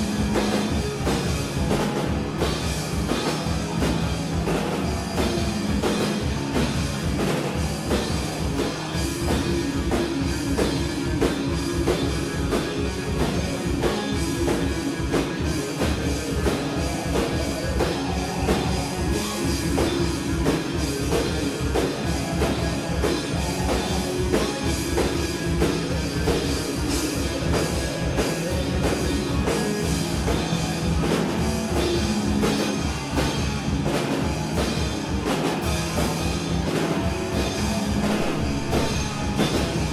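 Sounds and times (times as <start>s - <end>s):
drum kit: 0.0s - 39.9s
electric guitar: 0.0s - 39.9s
synthesizer: 0.0s - 39.9s.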